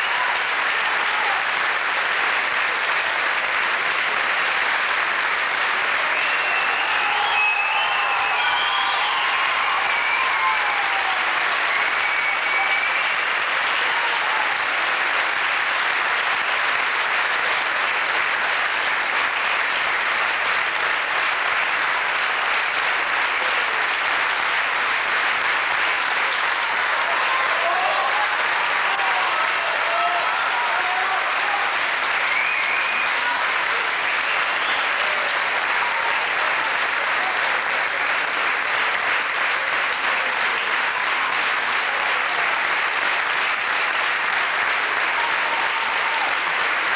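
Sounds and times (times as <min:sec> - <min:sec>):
audience applauding: 0:00.0 - 0:46.9.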